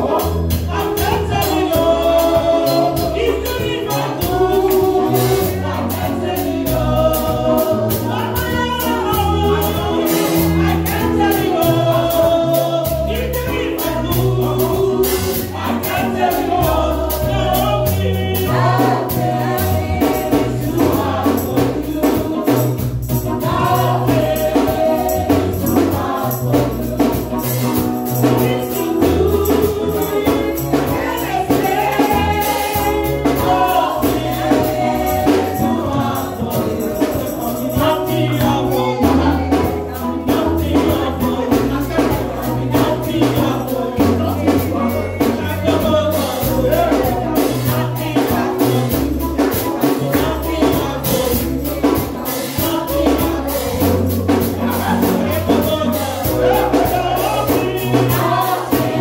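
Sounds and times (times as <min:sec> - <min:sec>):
band with bass and percussion: 0:00.0 - 0:59.0
group singing gospel song: 0:00.0 - 0:59.0.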